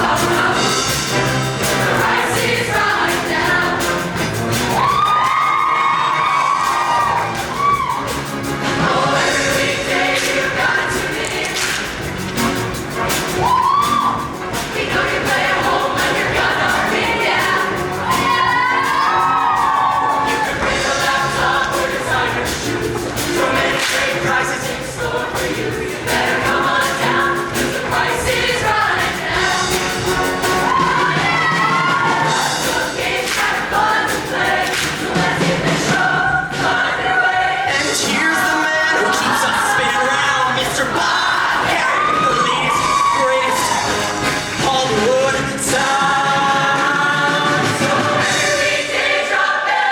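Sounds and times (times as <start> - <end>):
choir singing: 0.0 - 49.9
musical accompaniment: 0.0 - 49.9.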